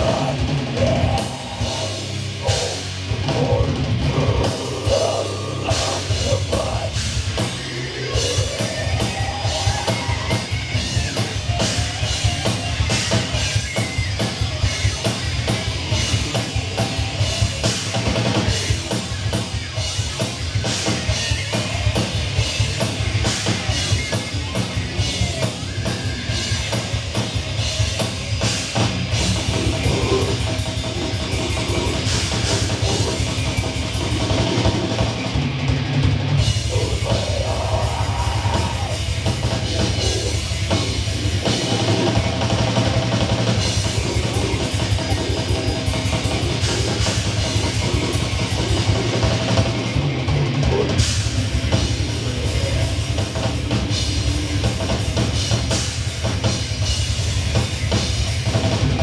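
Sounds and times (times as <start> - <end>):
electric guitars: 0.0 - 59.0
heavy metal band playing live: 0.0 - 59.0
rapid drum kit hits: 0.0 - 59.0.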